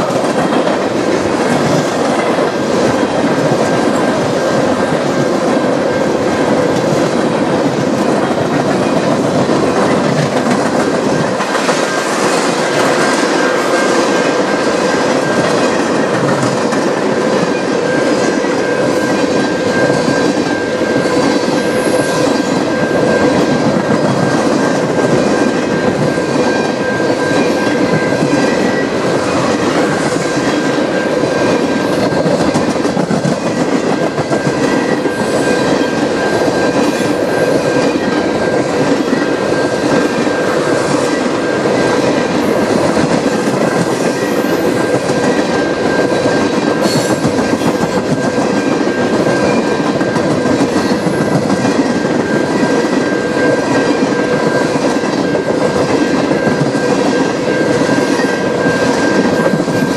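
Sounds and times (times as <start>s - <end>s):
train wheels clickety-clack: 0.0s - 59.9s.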